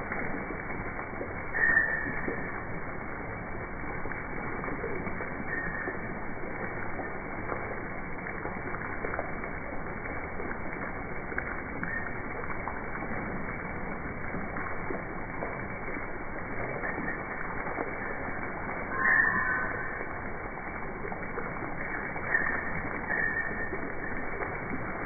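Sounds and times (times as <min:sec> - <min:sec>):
water splashing into fountain basin: 0:00.0 - 0:25.0.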